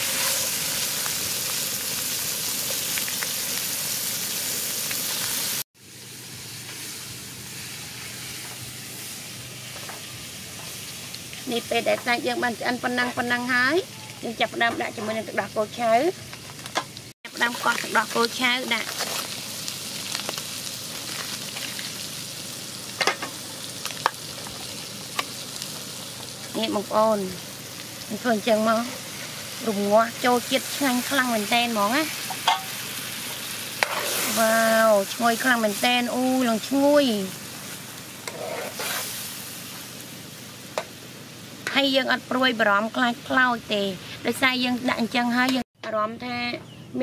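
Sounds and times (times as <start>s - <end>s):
meat sizzling in a pan: 0.0s - 45.7s.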